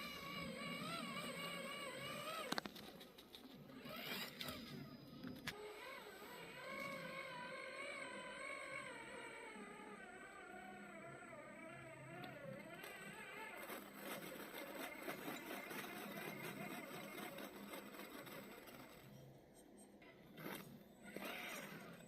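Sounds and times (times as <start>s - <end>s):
electric motor and gears whining: 0.0s - 19.4s, 20.0s - 22.0s.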